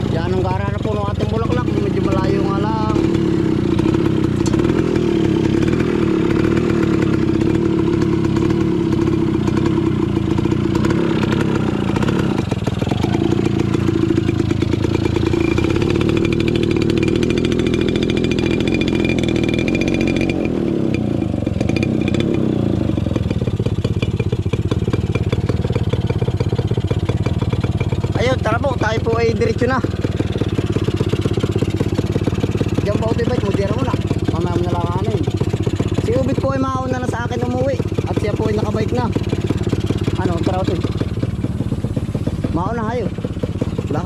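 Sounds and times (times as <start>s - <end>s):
small motorcycle engine: 0.0s - 44.0s.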